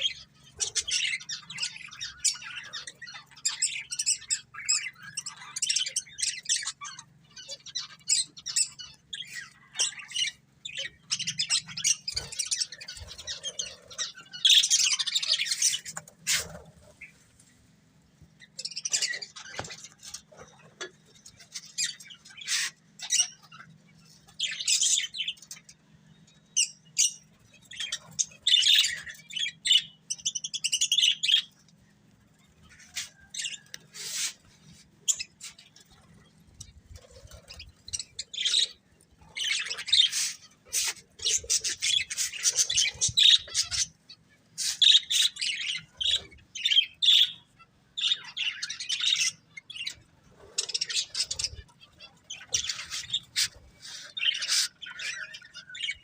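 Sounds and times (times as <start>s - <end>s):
budgerigars chirping and chattering: 0.0s - 17.6s, 18.2s - 56.0s.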